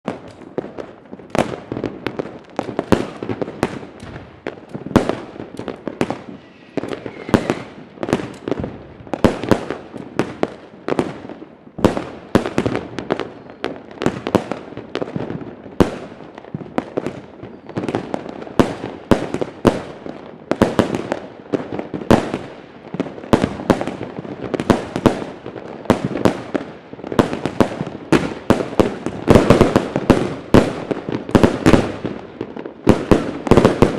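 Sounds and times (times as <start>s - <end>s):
firework bangs with crackle: 0.0s - 33.9s.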